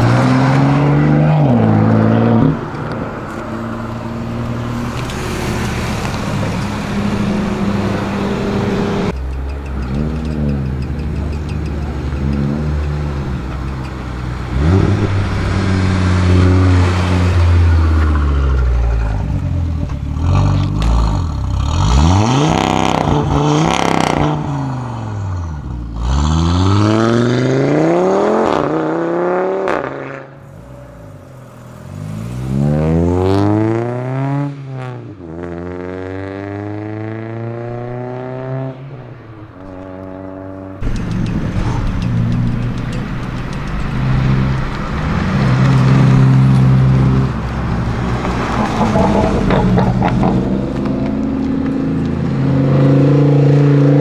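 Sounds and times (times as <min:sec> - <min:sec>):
car engine accelerating through gears: 0:00.0 - 0:54.0.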